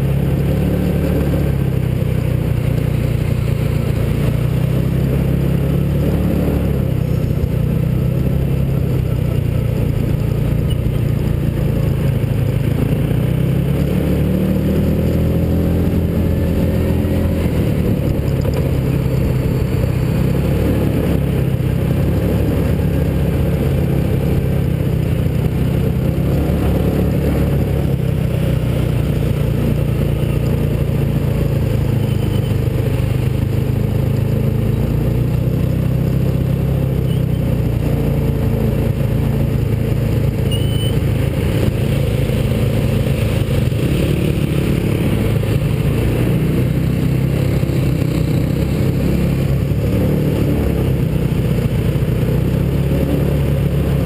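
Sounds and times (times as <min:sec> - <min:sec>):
small car engine running: 0:00.0 - 0:54.0.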